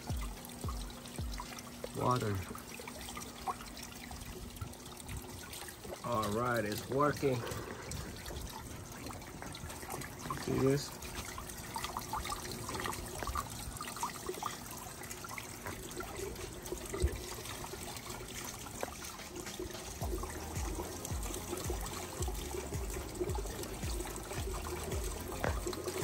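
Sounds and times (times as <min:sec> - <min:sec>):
water dripping: 0:00.0 - 0:26.0
water trickling and splashing: 0:00.0 - 0:26.0.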